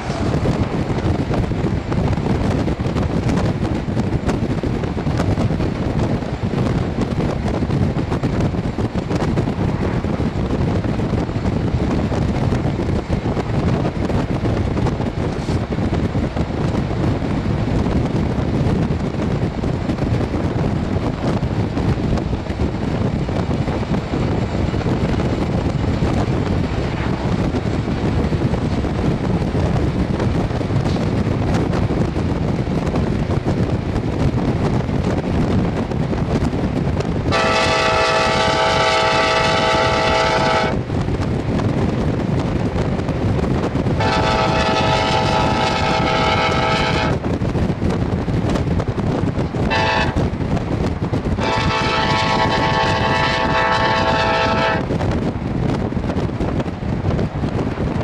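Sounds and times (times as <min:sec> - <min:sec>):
vehicle road noise: 0:00.0 - 0:58.0
wind buffeting microphone: 0:00.0 - 0:58.0.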